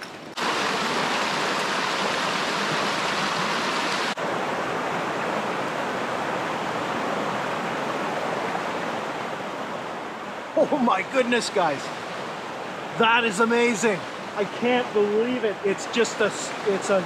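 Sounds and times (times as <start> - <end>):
waterfall rushing: 0.4 - 17.0.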